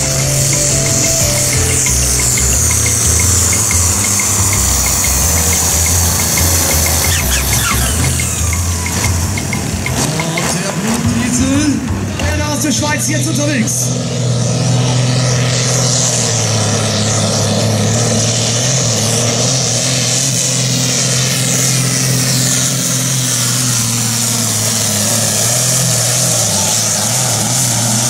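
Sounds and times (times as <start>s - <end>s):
tractor diesel engine running flat out: 0.0s - 28.0s.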